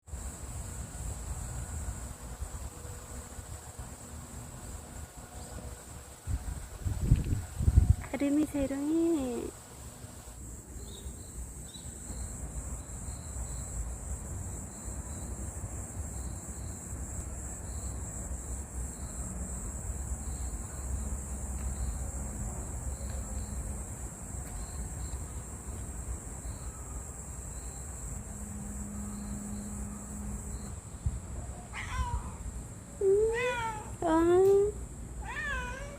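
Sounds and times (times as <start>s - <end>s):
insect chirps: 0.0s - 35.9s
insect drone: 0.0s - 35.9s.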